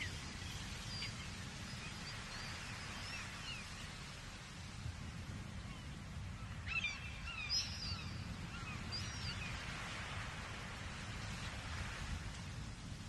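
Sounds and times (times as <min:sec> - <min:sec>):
distant ocean surf: 0:00.0 - 0:13.0.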